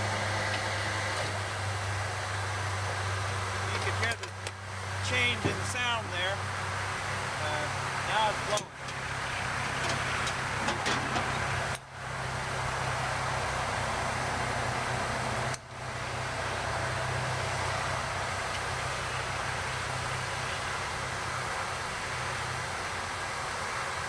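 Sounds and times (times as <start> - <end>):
electric blowers rushing air: 0.0 - 24.0.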